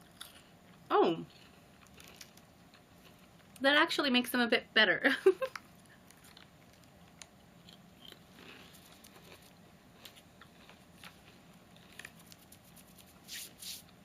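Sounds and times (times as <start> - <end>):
chewing potato chips: 0.0 - 3.6, 5.4 - 13.2.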